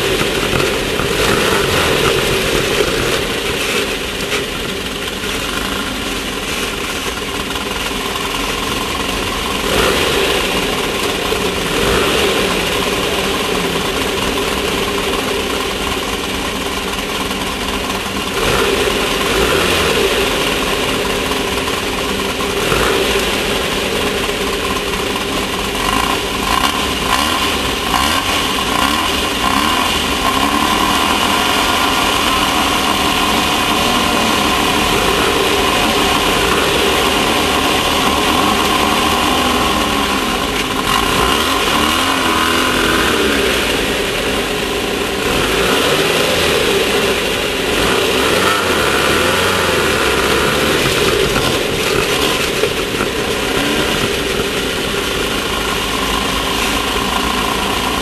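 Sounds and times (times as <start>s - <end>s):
constant noisy rush: 0.0s - 58.0s
race car engine revving: 0.0s - 58.0s.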